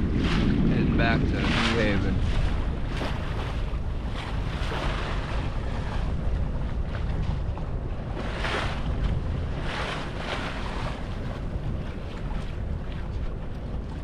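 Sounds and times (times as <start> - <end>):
water washing along hull: 0.0 - 14.0
wind buffeting microphone: 0.0 - 14.0.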